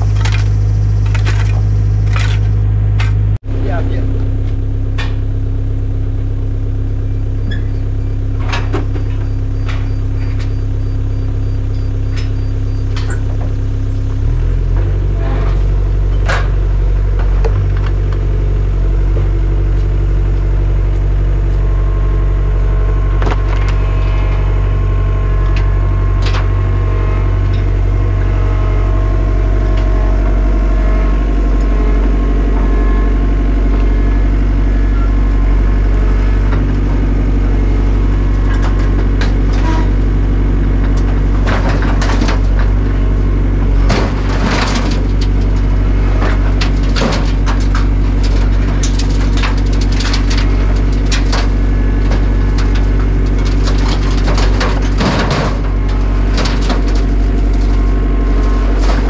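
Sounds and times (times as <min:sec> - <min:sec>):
large engine running: 0:00.0 - 0:59.0.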